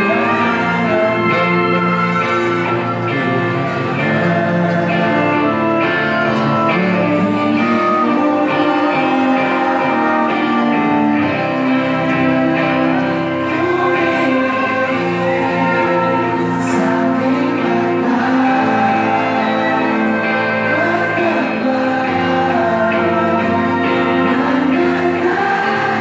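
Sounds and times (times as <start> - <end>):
live pop-rock band with singing: 0.0 - 26.0.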